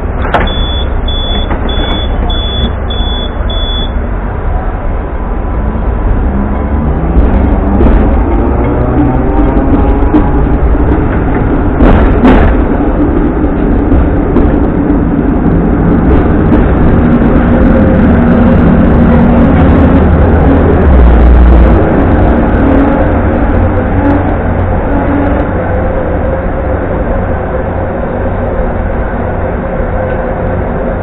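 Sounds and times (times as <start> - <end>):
tram motor hum: 0.0 - 31.0
tram rumbling on rails: 0.0 - 31.0.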